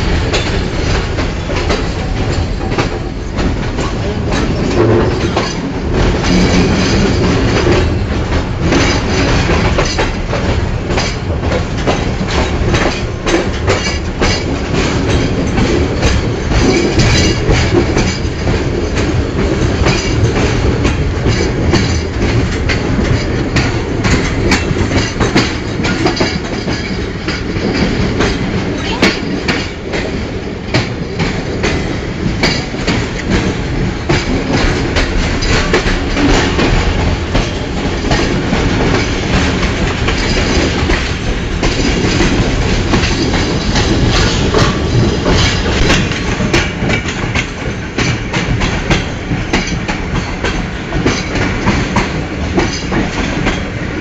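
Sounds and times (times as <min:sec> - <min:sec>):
train rumble: 0:00.0 - 0:54.0
wheels clattering over rail joints: 0:00.0 - 0:54.0
wind noise: 0:00.0 - 0:54.0.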